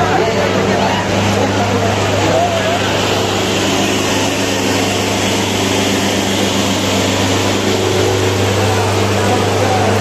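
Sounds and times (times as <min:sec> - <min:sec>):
tractor diesel engine at full throttle: 0:00.0 - 0:10.0.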